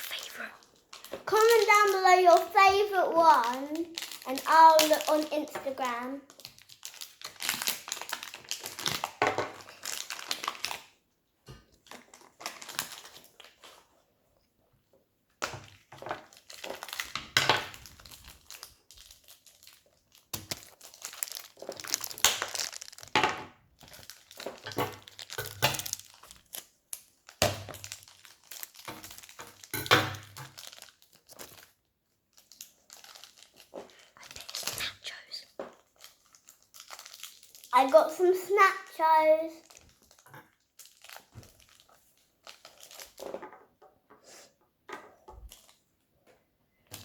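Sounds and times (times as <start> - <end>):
plastic packaging crinkling: 0.0 - 11.0, 11.8 - 14.0, 15.7 - 43.7, 45.1 - 45.9.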